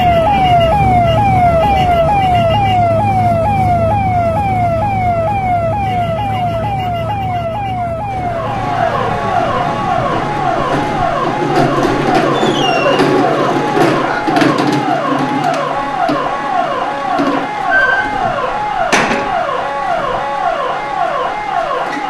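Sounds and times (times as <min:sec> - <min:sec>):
ambulance siren yelping: 0:00.0 - 0:22.0.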